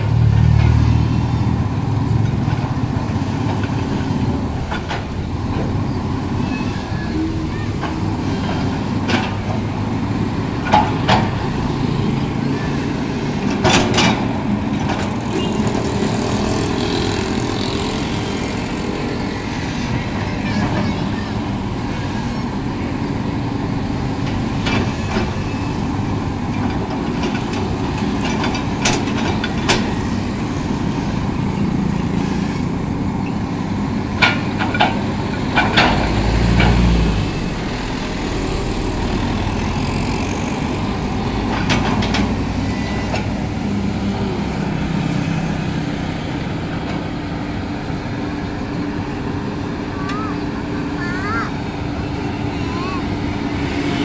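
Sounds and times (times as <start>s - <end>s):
motorbike passing: 0.0s - 48.7s
excavator diesel engine running: 0.0s - 54.0s.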